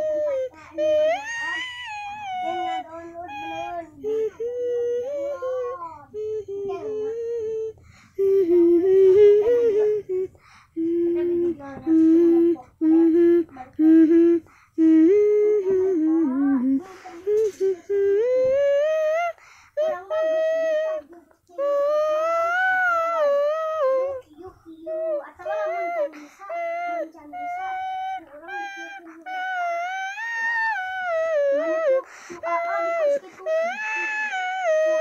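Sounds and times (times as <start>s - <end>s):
child humming: 0.0s - 35.0s.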